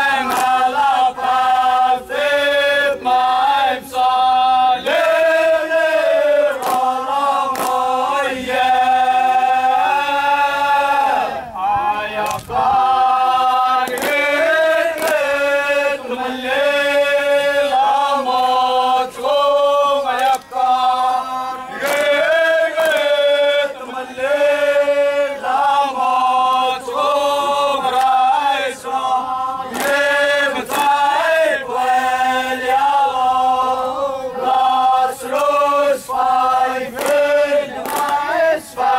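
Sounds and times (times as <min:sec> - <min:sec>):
group chanting in unison: 0:00.0 - 0:38.9.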